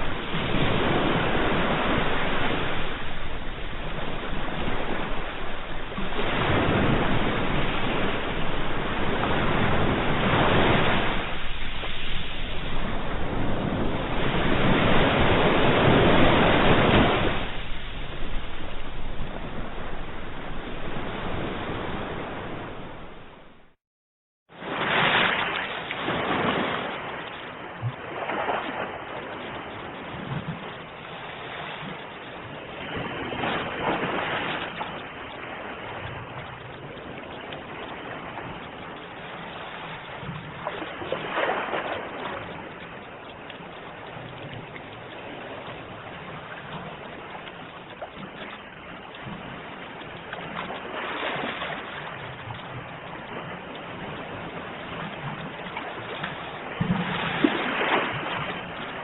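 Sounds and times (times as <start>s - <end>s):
ocean waves washing ashore: 0.0s - 23.8s, 24.5s - 59.0s.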